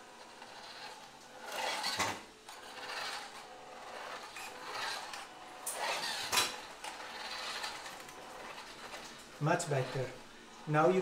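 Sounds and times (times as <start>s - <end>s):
motor buzz: 0.0s - 10.3s
toy truck motor whirring: 0.0s - 10.3s.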